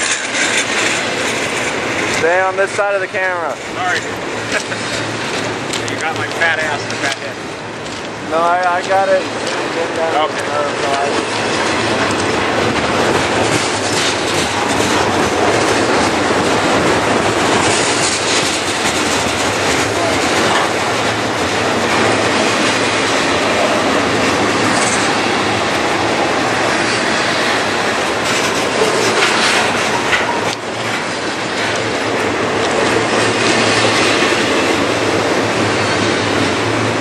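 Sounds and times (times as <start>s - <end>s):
freight train wheels rumbling on rails: 0.0s - 37.0s.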